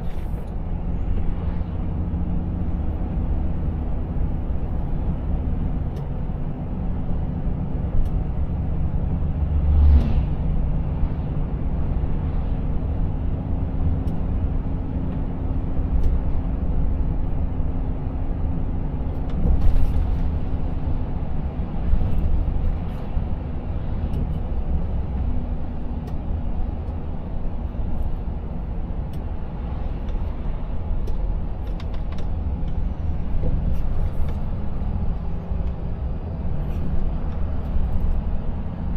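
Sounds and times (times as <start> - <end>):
truck engine drone: 0.0 - 38.9
tyre and road noise: 0.0 - 38.9.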